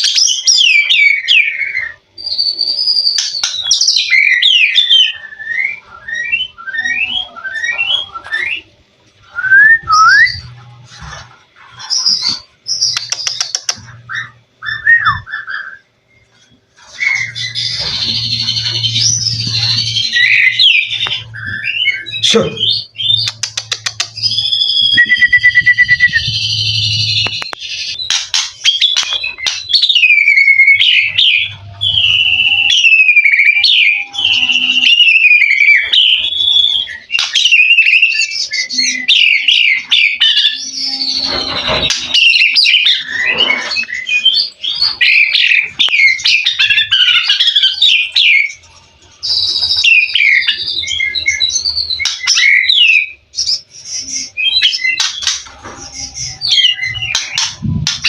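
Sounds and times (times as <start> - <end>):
songbird singing whistles and warbles: 0.0 - 58.0.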